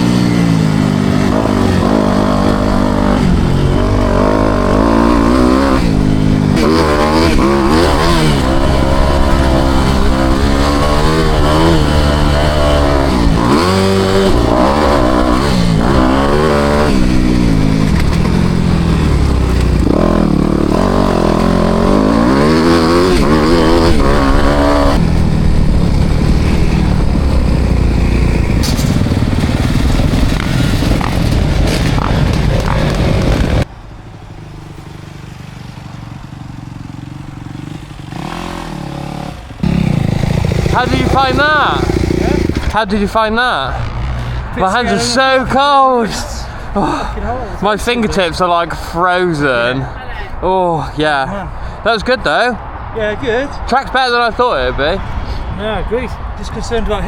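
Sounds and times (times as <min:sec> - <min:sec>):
motocross bike engine revving: 0:00.0 - 0:33.7, 0:34.3 - 0:46.3.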